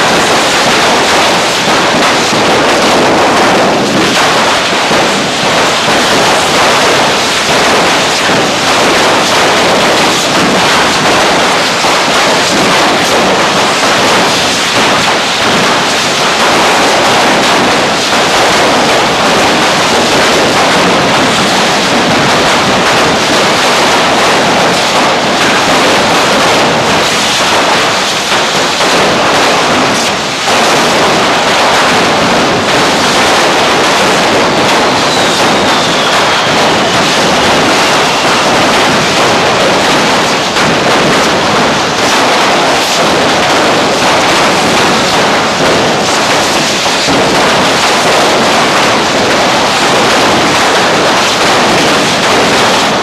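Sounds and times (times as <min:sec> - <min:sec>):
crackles and pops: 0:00.0 - 0:53.0
hissing rush of spraying sparks: 0:00.0 - 0:53.0.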